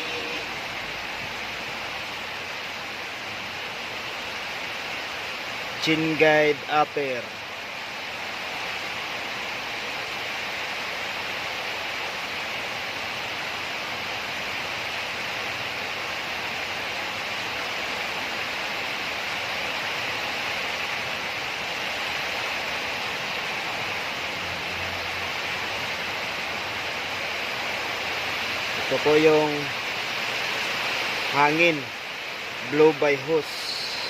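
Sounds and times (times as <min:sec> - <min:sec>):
steady hiss: 0:00.0 - 0:34.0.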